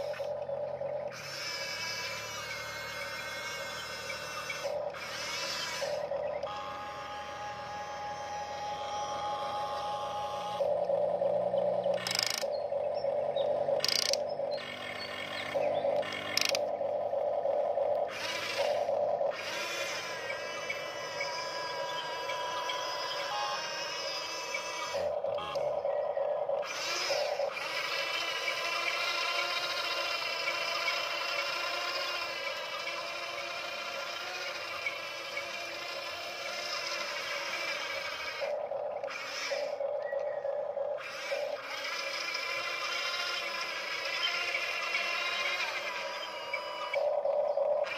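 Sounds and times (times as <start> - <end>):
toy excavator motors whining: 0.0 - 47.9.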